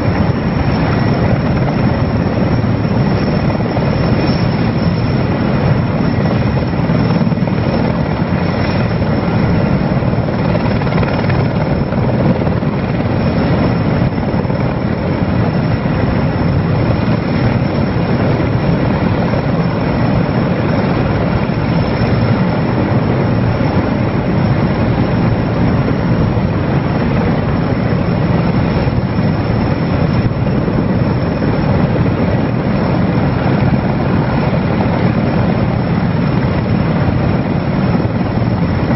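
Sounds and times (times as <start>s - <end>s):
helicopter rotor and turbine drone: 0.0s - 38.9s.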